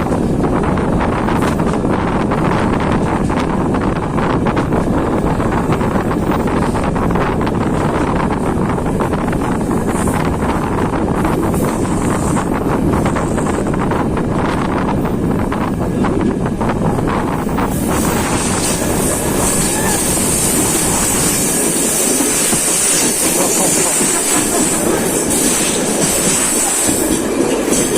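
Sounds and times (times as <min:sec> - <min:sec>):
train rumbling along track: 0:00.0 - 0:27.9
wheels rattling and clicking on track: 0:00.0 - 0:27.9
wind on microphone: 0:00.0 - 0:27.9.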